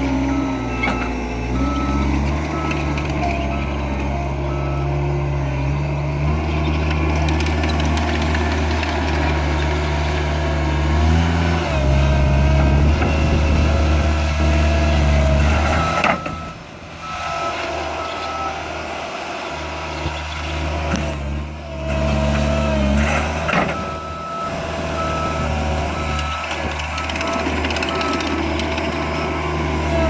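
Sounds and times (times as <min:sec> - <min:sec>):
loader engine running: 0:00.0 - 0:30.0.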